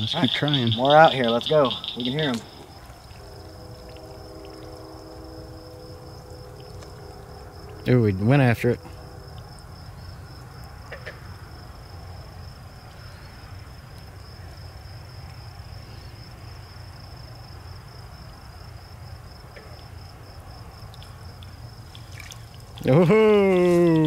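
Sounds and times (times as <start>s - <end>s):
low steady rumble: 0.0s - 23.6s
night insects trilling: 0.0s - 24.0s.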